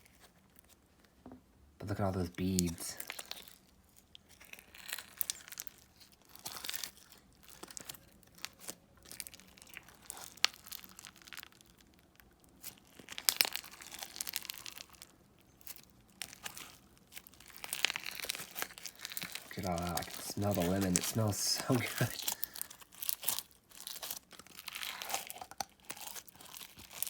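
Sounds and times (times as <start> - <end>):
crunchy slime crackling and popping: 1.8 - 27.0.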